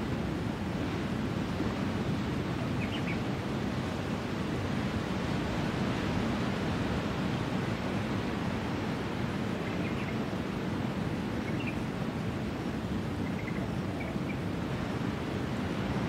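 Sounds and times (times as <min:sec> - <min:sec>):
distant surf: 0:00.0 - 0:16.0.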